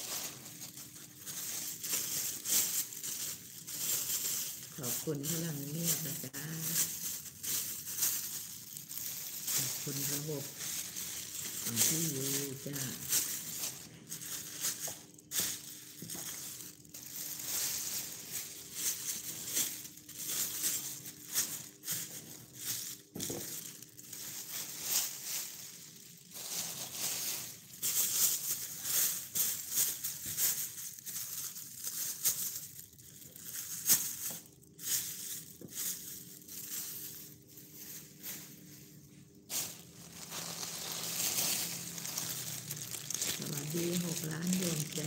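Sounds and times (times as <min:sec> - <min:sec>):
plastic bag crinkling: 0:00.0 - 0:45.0.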